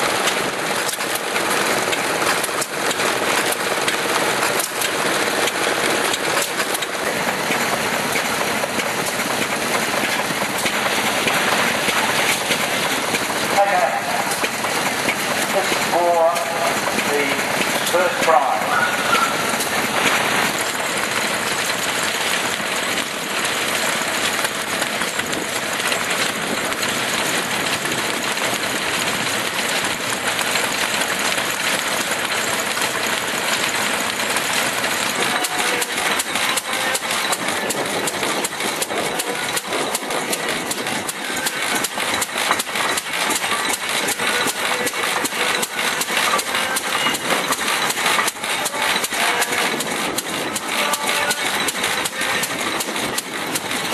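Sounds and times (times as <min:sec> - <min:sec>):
stationary engines running: 0:00.0 - 0:53.9
fast regular knocking: 0:00.2 - 0:53.9.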